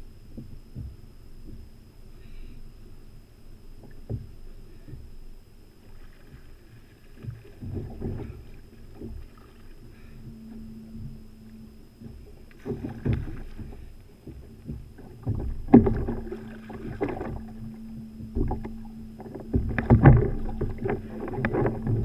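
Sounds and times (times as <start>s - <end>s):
water slapping kayak hull: 3.7s - 22.0s.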